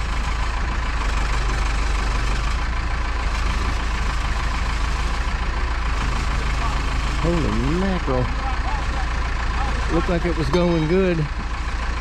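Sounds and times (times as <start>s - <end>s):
heavy engine idling: 0.0s - 12.0s.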